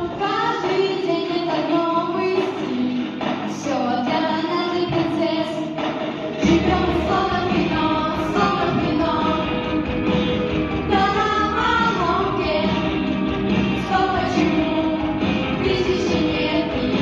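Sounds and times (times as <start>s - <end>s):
person singing with music: 0.0s - 17.0s.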